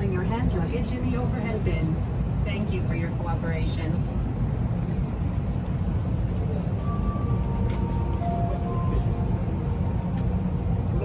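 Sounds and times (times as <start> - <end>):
cabin ventilation rumble: 0.0 - 11.0.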